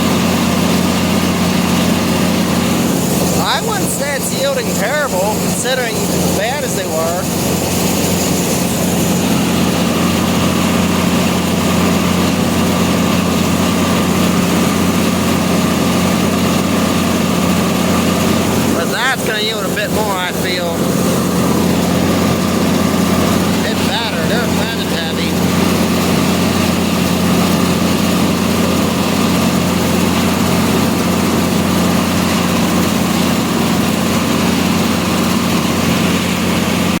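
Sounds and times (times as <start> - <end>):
combine harvester drone: 0.0 - 37.0.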